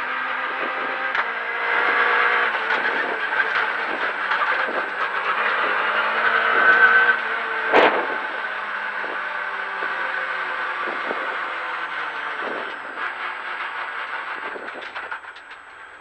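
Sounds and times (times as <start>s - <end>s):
car engine slowing down: 0.0s - 16.0s.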